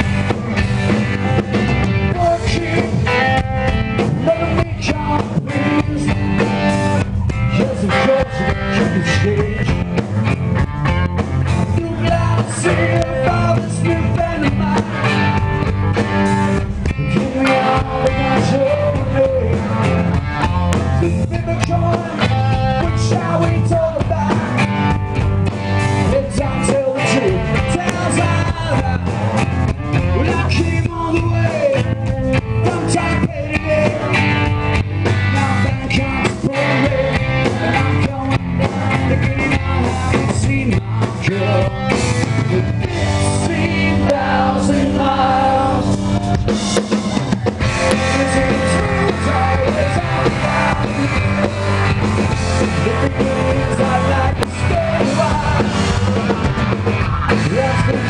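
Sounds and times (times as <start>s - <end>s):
drum kit: 0.0s - 58.0s
electric guitar: 0.0s - 58.0s
man singing: 2.0s - 10.0s, 11.6s - 15.5s, 16.8s - 25.0s, 26.0s - 46.0s, 47.6s - 58.0s.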